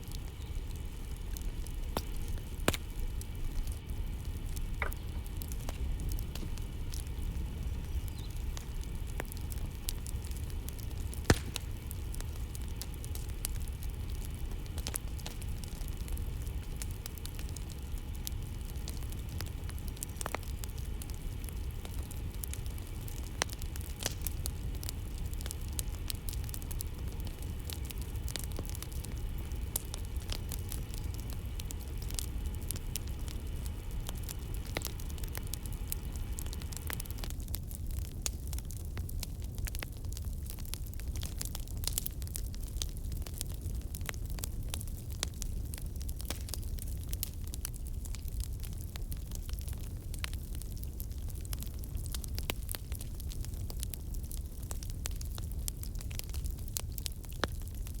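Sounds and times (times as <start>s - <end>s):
flames rumbling: 0.0s - 58.0s
wood crackling and popping: 0.0s - 58.0s.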